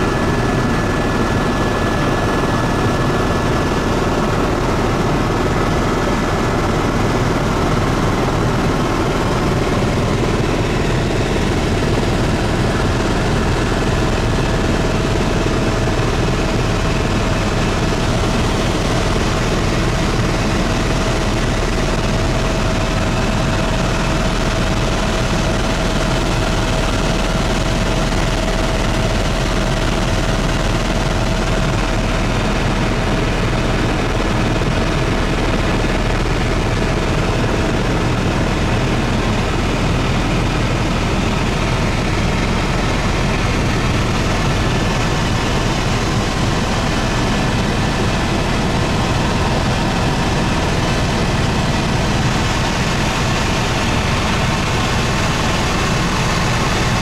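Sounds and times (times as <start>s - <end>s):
helicopter rotor and engine drone: 0.0s - 57.0s.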